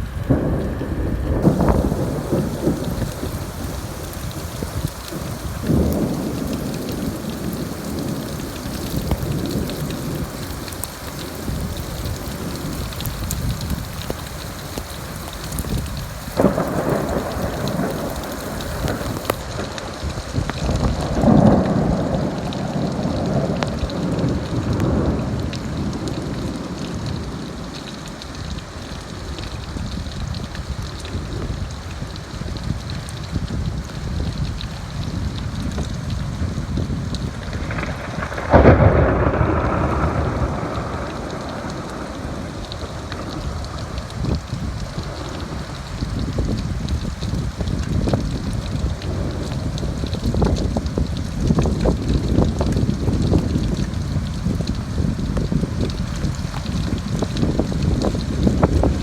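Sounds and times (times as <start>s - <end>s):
thunder rumbling and cracking: 0.0s - 27.8s, 32.2s - 59.0s
steady rain: 0.0s - 59.0s.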